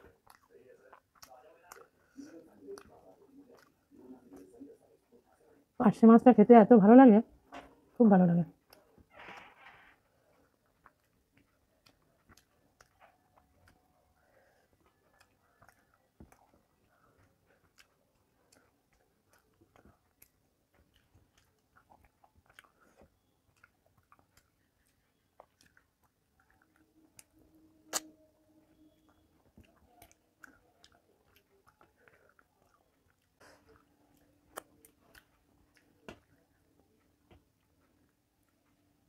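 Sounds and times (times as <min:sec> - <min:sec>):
soft chewing: 0:00.0 - 0:05.8, 0:07.3 - 0:39.0.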